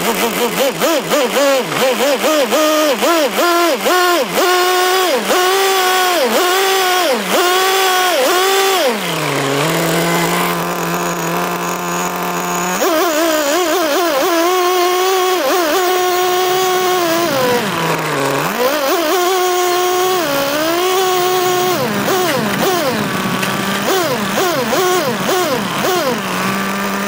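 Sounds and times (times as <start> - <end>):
rc car engine revving: 0.0 - 27.0.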